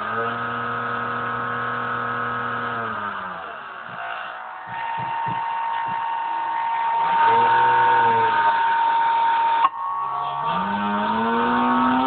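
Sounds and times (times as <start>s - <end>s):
electric motor spinning down: 0.0s - 12.0s
high-pitched motor whine: 0.0s - 12.0s.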